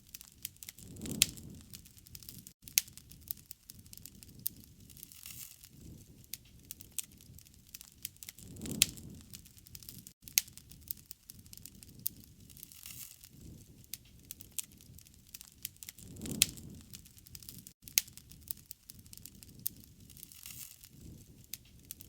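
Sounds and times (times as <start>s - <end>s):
low rumble of burning: 0.0s - 22.0s
wood fire crackling and popping: 0.0s - 22.0s.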